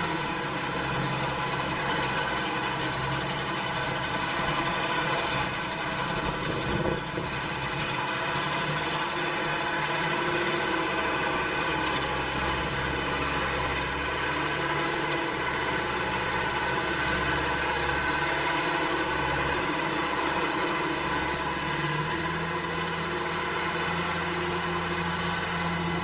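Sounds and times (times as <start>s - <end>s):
farm machine engine running: 0.0s - 26.0s.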